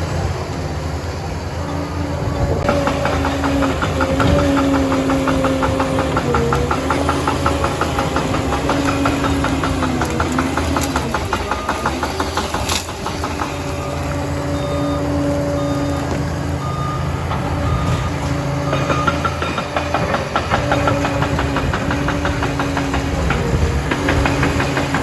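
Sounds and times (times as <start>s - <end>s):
diesel engine running: 0.0s - 25.0s
steel tracks clanking: 0.0s - 25.0s.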